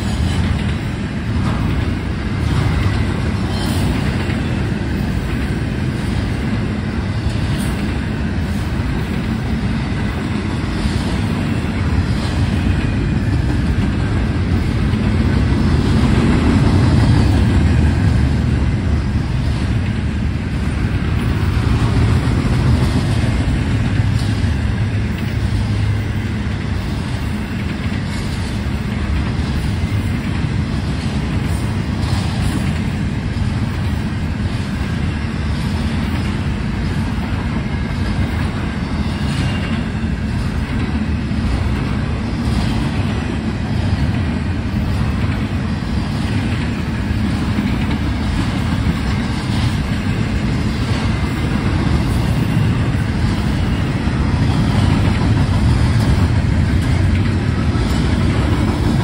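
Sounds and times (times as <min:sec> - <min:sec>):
train cars rumbling on rails: 0:00.0 - 0:59.0.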